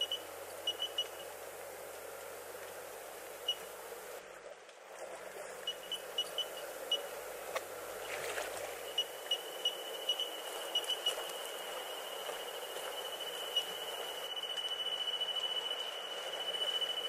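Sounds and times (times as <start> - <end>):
background hum: 0.0 - 17.0.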